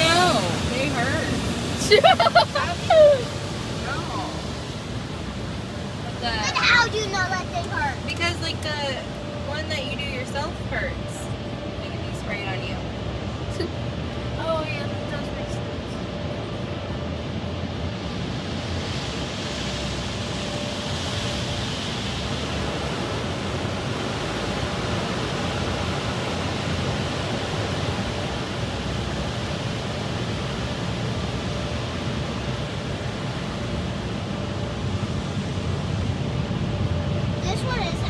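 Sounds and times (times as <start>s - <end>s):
water jets spraying on car: 0.0s - 11.2s, 17.9s - 36.5s, 37.3s - 38.0s.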